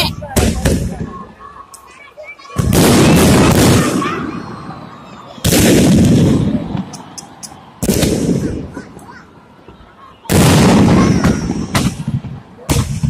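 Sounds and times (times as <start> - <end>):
fireworks booming: 0.0 - 1.4, 2.4 - 13.0.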